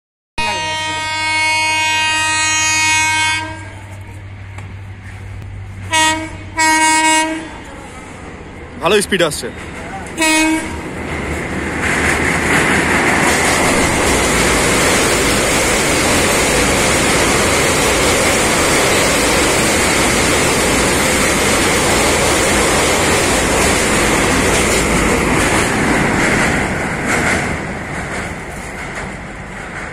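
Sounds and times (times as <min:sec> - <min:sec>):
train wheels rumbling over bridge: 0:00.6 - 0:29.9.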